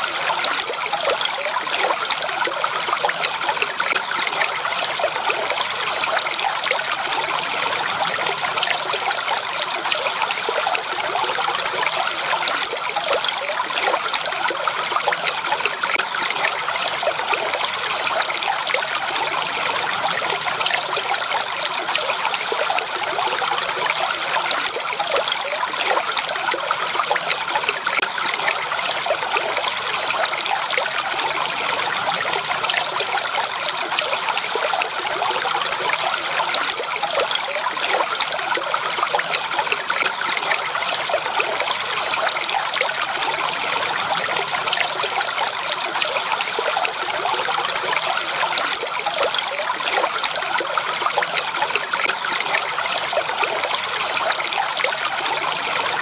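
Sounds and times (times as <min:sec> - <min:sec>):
stream water trickling over stones: 0:00.0 - 0:56.0.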